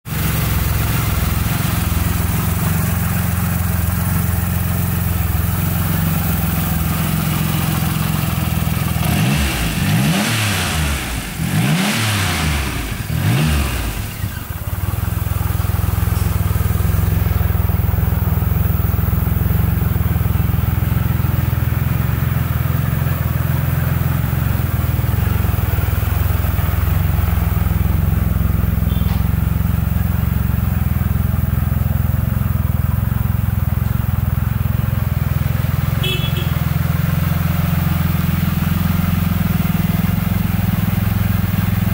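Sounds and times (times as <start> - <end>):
motorcycle engine idling and revving: 0.0 - 41.9.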